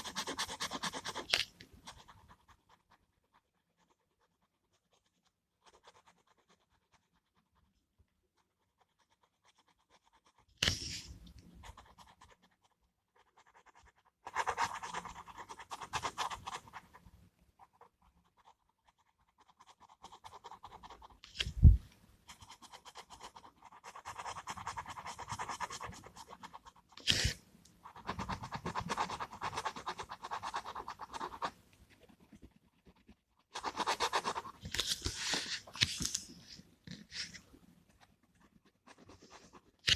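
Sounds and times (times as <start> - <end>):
pen scratching on paper: 0.0 - 39.9.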